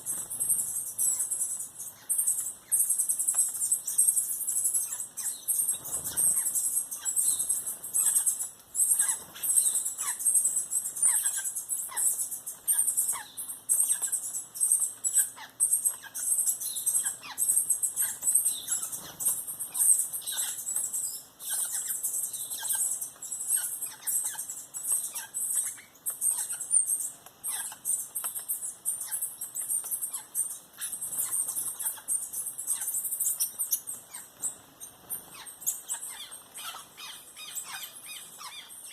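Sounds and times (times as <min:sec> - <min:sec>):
birds chattering: 0:00.0 - 0:38.9.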